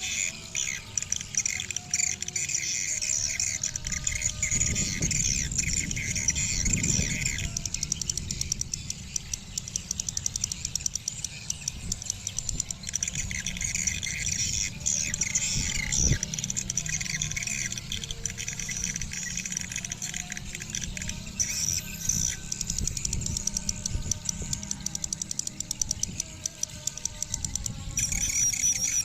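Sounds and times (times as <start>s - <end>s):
swiftlets chirping and clicking: 0.0s - 29.0s.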